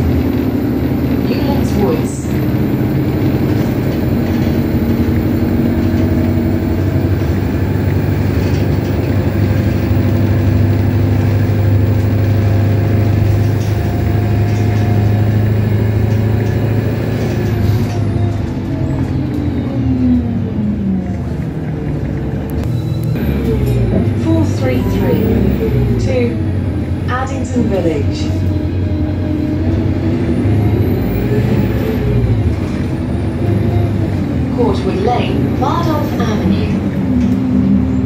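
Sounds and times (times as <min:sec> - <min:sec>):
bus engine droning: 0:00.0 - 0:38.0.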